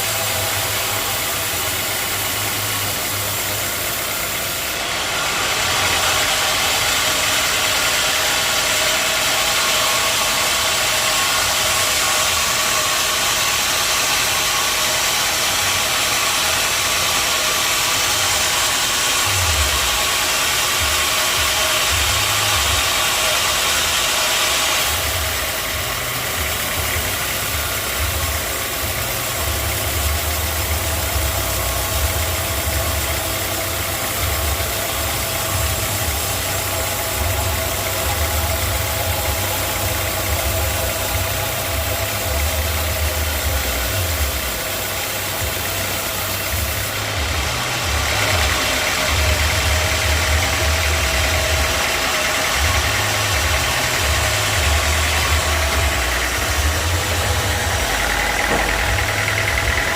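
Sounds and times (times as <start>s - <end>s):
saw blade cutting log: 0.0s - 59.9s
sawmill engine droning: 0.0s - 59.9s.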